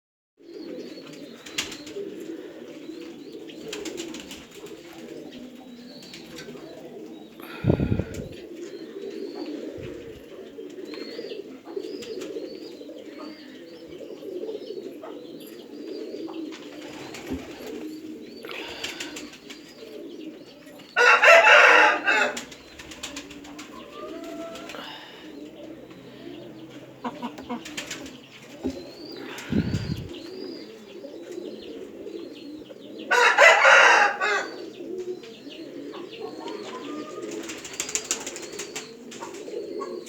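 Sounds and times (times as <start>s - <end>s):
pigeons cooing: 0.4s - 40.0s.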